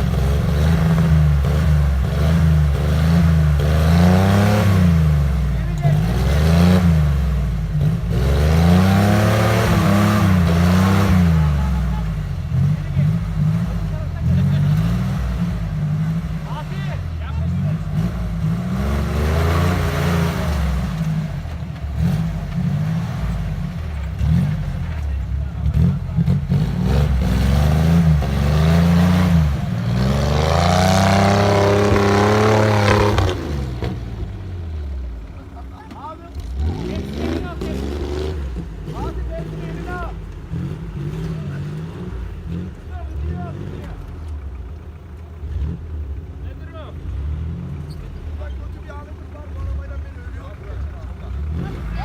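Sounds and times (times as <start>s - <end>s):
vehicle engine revving: 0.0s - 52.0s.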